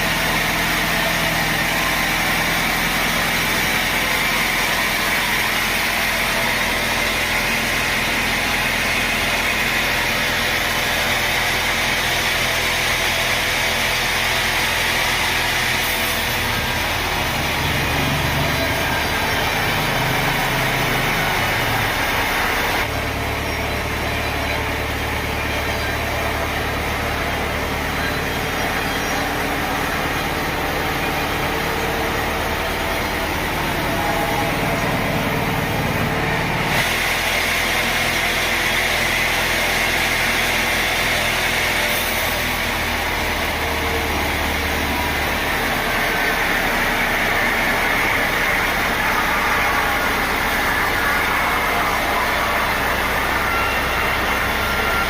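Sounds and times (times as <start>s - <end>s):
sawmill machinery hum: 0.0s - 55.0s.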